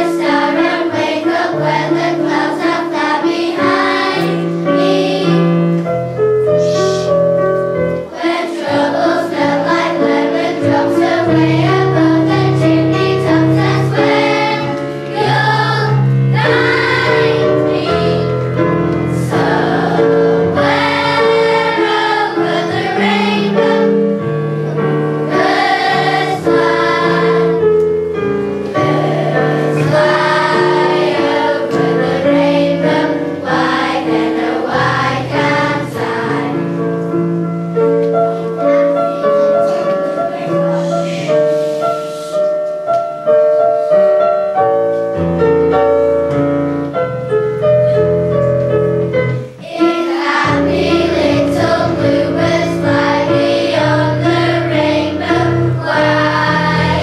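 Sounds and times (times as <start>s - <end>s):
children's choir singing: 0.0s - 42.7s, 47.9s - 57.0s
instrumental accompaniment: 0.0s - 57.0s.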